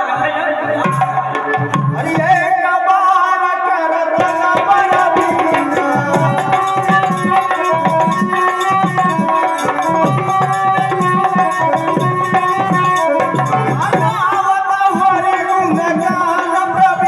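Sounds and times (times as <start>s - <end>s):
steady drum rhythm: 0.6s - 2.5s, 4.2s - 17.0s.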